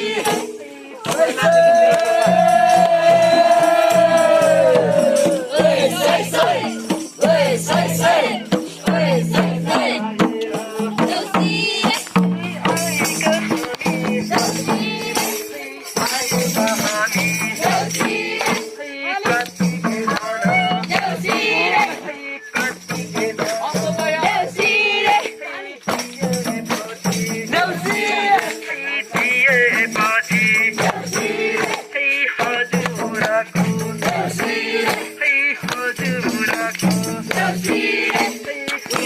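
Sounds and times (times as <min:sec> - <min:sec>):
quick percussion hits: 0:00.0 - 0:39.0
voices singing: 0:00.0 - 0:39.0.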